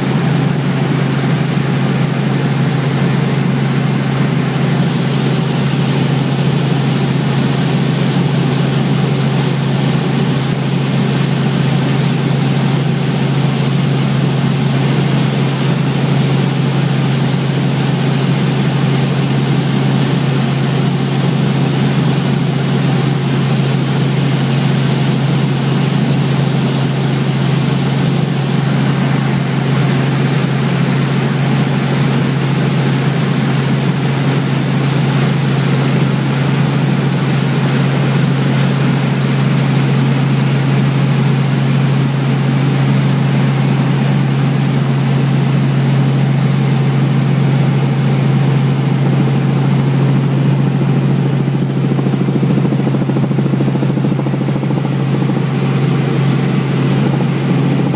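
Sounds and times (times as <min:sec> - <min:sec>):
helicopter rotor and engine drone: 0:00.0 - 0:57.9.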